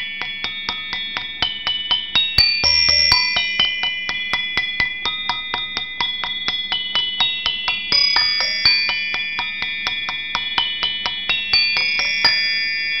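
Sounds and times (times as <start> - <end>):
bell-like chiming notes: 0.0 - 13.0.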